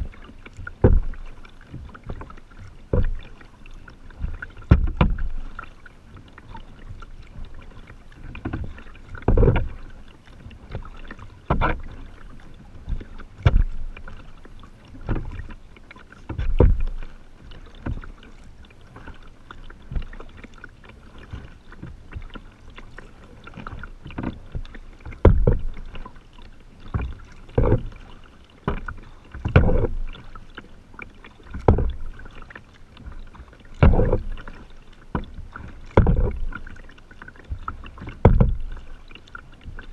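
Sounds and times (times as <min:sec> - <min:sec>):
kayak paddle splashing: 0:00.0 - 0:39.9
light water noise: 0:00.0 - 0:39.9.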